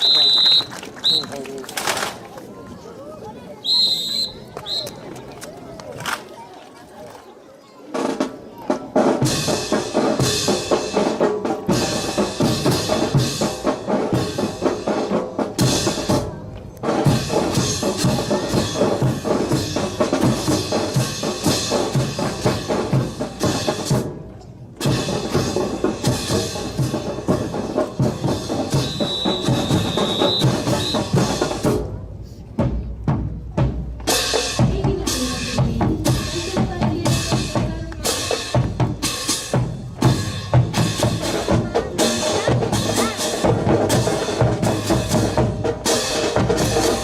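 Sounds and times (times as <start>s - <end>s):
drums playing fast beat: 7.9s - 47.0s.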